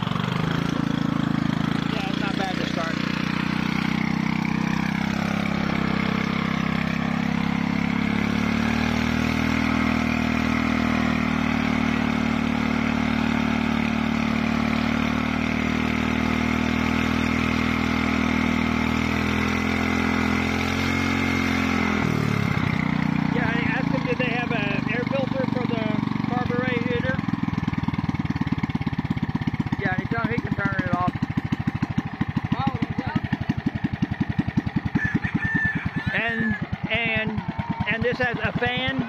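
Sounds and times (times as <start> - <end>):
petrol engine running: 0.0 - 39.0.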